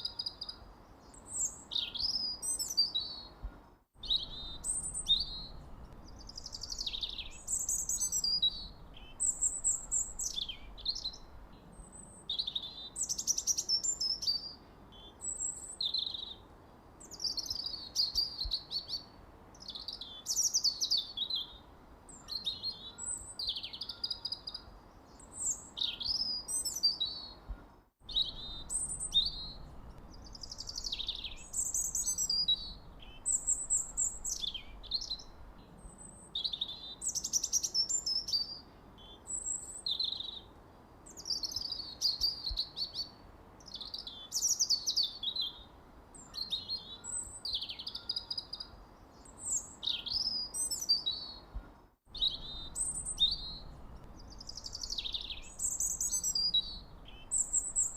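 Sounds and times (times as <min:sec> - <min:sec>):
faint background hiss: 0:00.0 - 0:57.9
songbirds chirping and trilling: 0:00.0 - 0:57.9.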